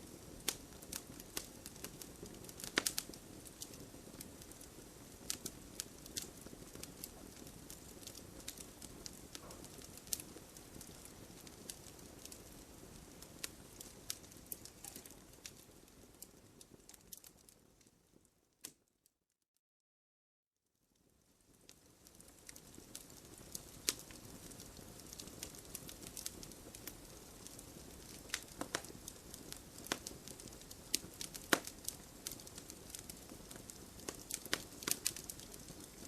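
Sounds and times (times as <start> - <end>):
campfire crackling: 0.0 - 18.2, 21.0 - 36.0.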